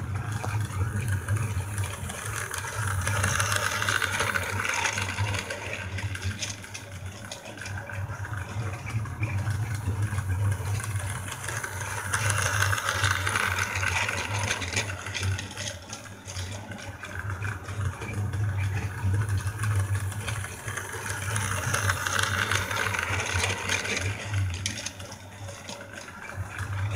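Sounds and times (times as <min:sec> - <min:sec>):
toy train motor whirring: 0:00.0 - 0:26.9
wheels rattling on track: 0:00.0 - 0:26.9.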